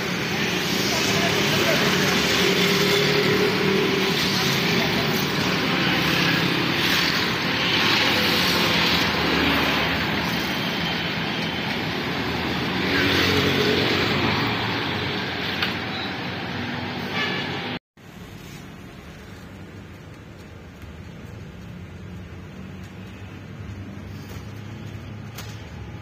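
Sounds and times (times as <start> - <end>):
vehicles passing close by: 0.0 - 26.0.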